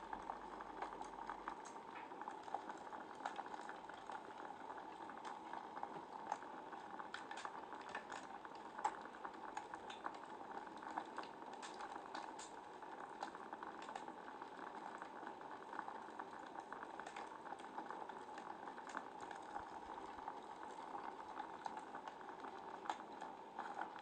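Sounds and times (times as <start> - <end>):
wood fire crackling and popping: 0.1 - 24.0.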